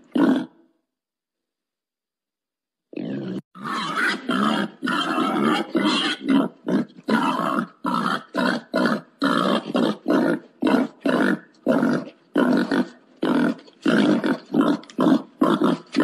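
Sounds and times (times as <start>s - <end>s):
wild boar grunting: 2.9s - 16.0s.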